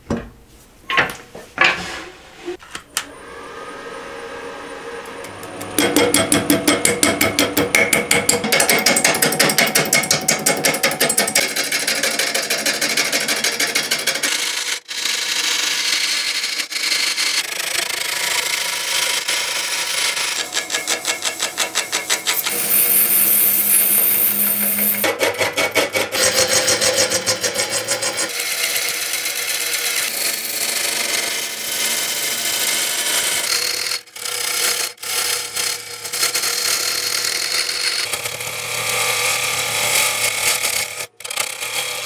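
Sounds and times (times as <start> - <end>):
wood lathe gouge cutting: 2.9 - 42.0.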